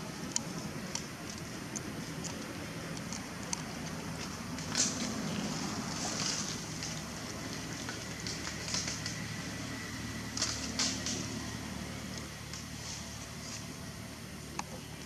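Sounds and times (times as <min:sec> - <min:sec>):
leaves and twigs rustling: 0:00.0 - 0:14.2
steady low hum: 0:00.0 - 0:15.0.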